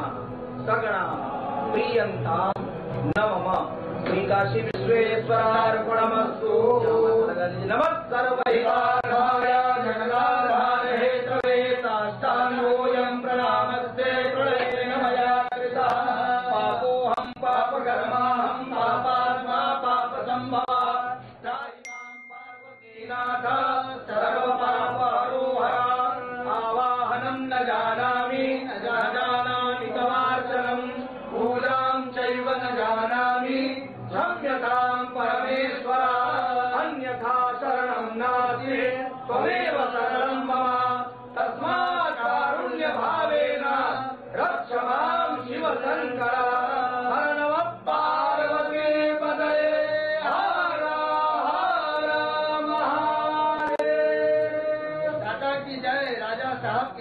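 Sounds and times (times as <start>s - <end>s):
men chanting: 4.1s - 21.6s, 23.4s - 57.0s.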